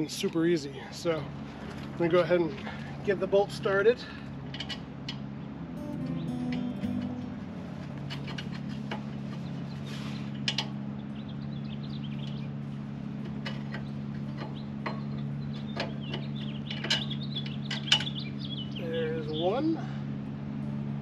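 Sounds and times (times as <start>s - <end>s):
birds chirping: 0.0s - 20.6s
steady low hum: 0.0s - 21.0s.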